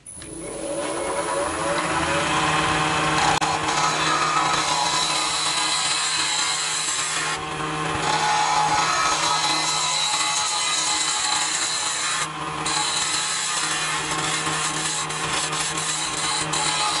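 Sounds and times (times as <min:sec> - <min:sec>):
chisel cutting spinning wood: 0:00.0 - 0:17.0
wood lathe motor running: 0:00.1 - 0:17.0.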